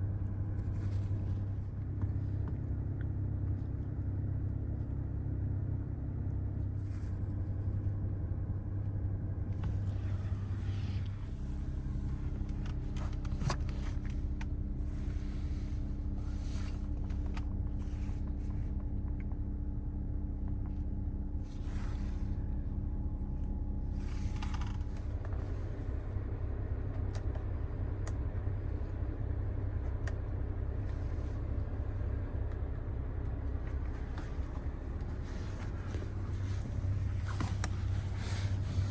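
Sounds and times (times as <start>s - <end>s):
low hum inside a car: 0.0s - 38.9s.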